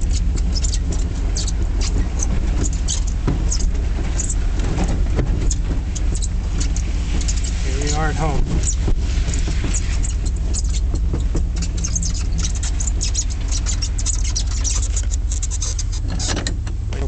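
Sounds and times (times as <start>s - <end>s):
truck engine droning under load: 0.0s - 17.0s.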